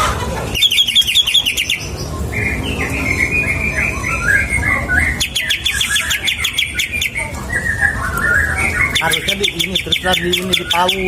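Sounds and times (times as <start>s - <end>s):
bird singing: 0.5s - 11.0s.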